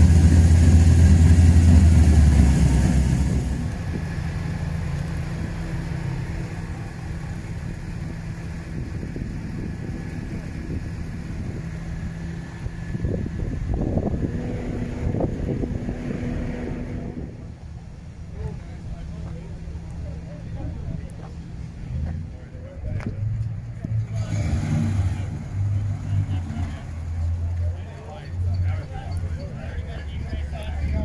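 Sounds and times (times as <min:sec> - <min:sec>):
car engine running low: 0:00.0 - 0:31.0.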